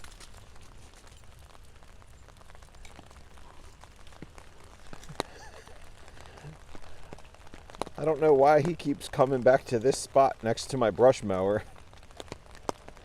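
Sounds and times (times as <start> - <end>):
rain patter: 0.0 - 13.0.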